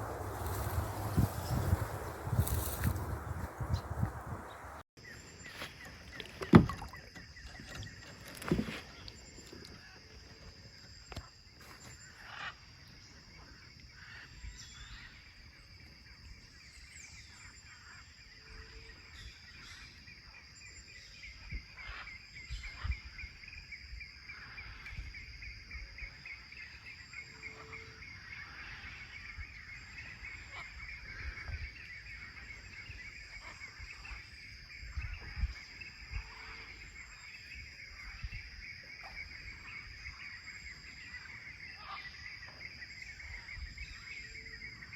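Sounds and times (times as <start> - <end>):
bird calls: 0.0 - 44.9
insects trilling: 0.0 - 44.9.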